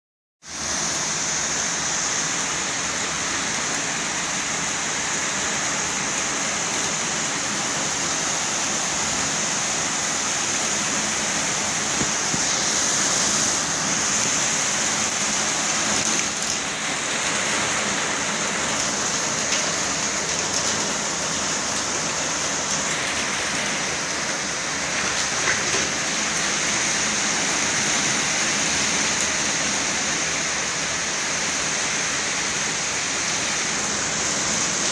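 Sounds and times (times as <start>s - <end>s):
torrential rain pouring: 0.4s - 34.9s.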